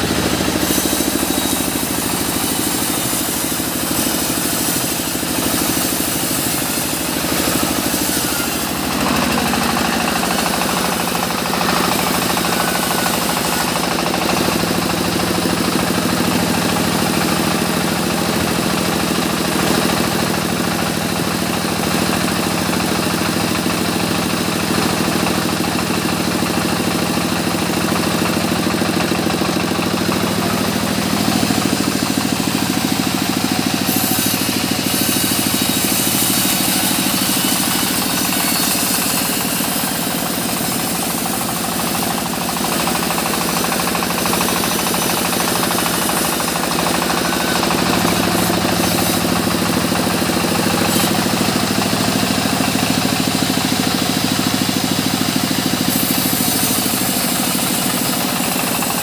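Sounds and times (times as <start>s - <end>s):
band sawmill drone: 0.0s - 59.0s.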